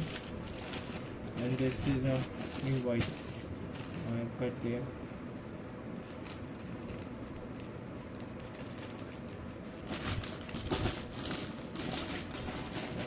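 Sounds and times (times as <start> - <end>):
packaging rustling and crinkling: 0.0 - 4.3, 6.0 - 13.0.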